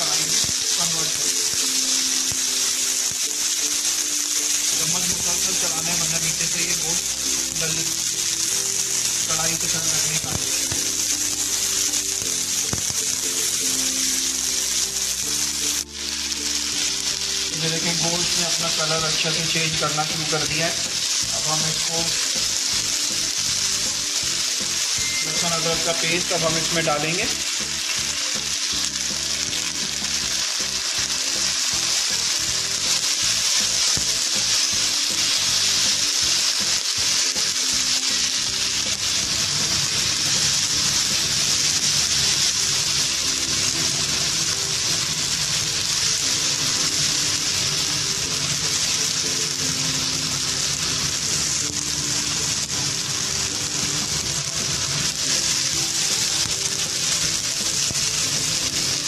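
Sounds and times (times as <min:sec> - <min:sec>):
meat and onions sizzling in oil: 0:00.0 - 0:59.0.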